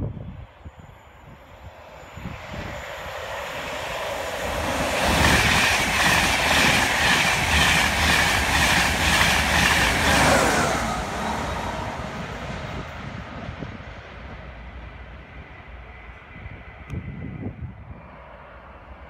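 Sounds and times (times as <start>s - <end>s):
express train rushing past: 0.0s - 19.0s
locomotive passing with falling tone: 1.2s - 16.9s.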